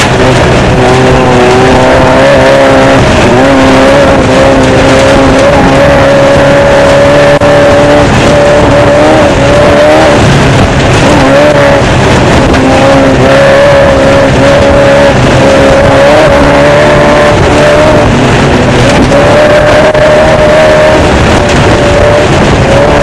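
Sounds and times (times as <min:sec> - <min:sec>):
loud rushing noise: 0:00.0 - 0:23.0
race car engine revving: 0:00.0 - 0:23.0.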